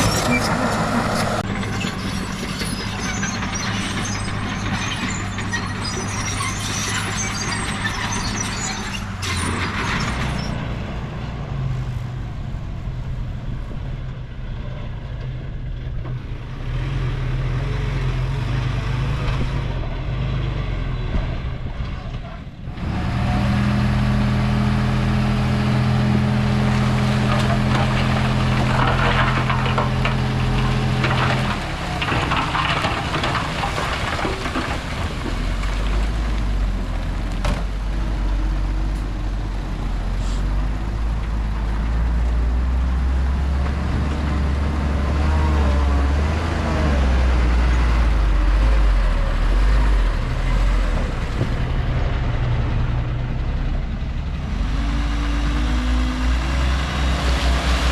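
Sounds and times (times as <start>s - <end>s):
heavy machinery diesel engines: 0.0s - 57.9s.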